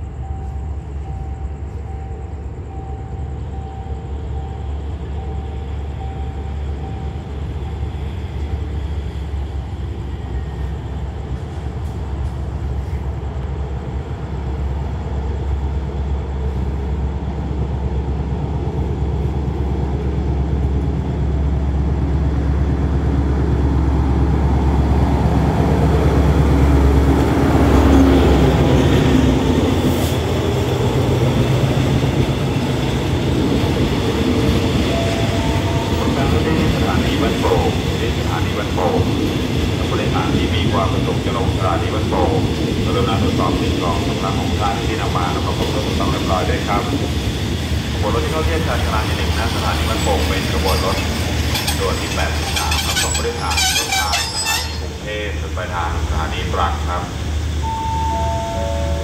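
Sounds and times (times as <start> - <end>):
locomotive engine drone: 0.0 - 59.0
wheel and rail rumble: 0.0 - 59.0.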